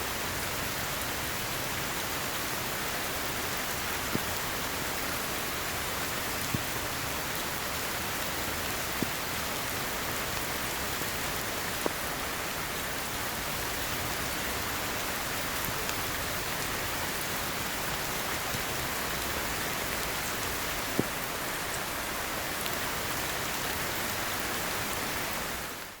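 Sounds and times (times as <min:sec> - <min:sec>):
heavy rain falling: 0:00.1 - 0:26.0.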